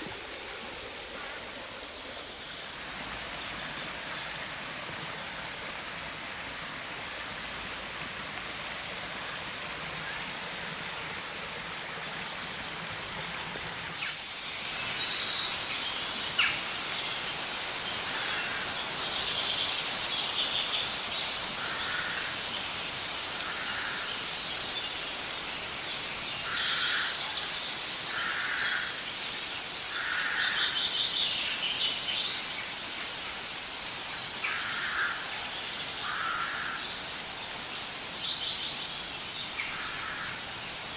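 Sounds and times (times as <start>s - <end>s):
steady outdoor hiss: 0.0s - 40.9s.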